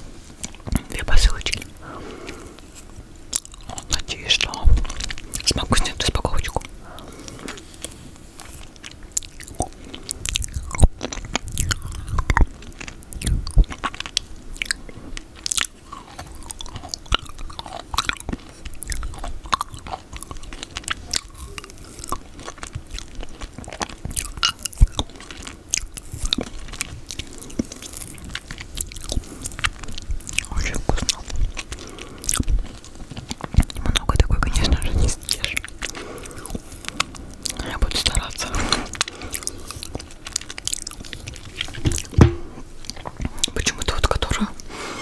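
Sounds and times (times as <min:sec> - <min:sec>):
chewing with wet clicks: 0:00.4 - 0:44.7.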